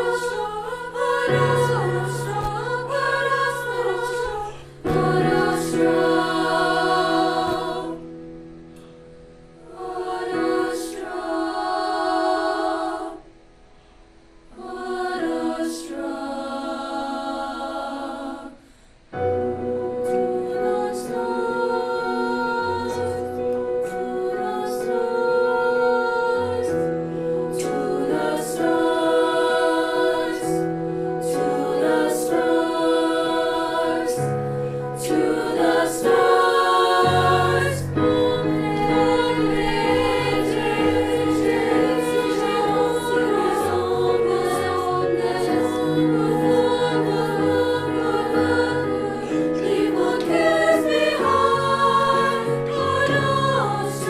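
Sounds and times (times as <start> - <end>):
children's choir singing: 0.0 - 8.2, 9.6 - 13.4, 14.5 - 18.6, 19.2 - 54.0.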